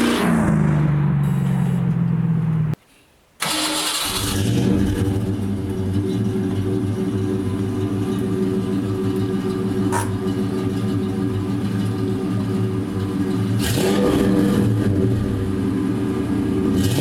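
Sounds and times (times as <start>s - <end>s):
car engine revving and idling: 0.0s - 2.8s, 3.8s - 17.0s.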